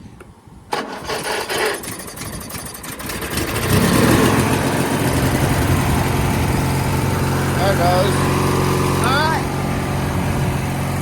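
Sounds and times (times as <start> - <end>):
electric starter cranking engine: 0.7 - 11.0
mower engine running: 0.7 - 11.0.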